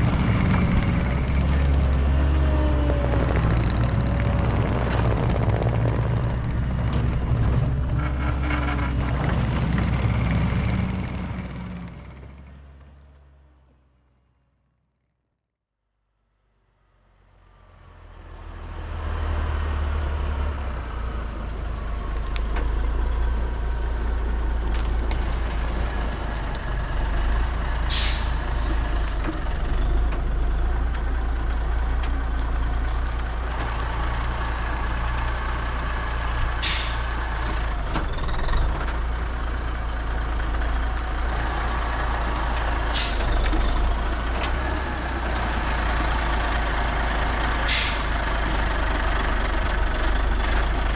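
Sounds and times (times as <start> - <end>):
diesel engine rumbling: 0.0 - 14.4, 16.4 - 50.9.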